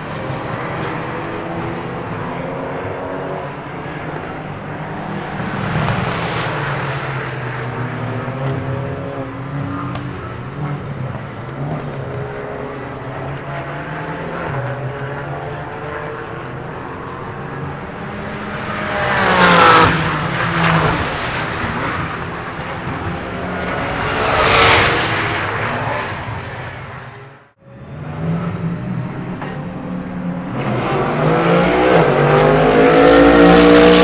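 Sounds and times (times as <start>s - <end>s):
drone of race car engines: 0.0s - 34.0s
race car passing by: 0.0s - 34.0s.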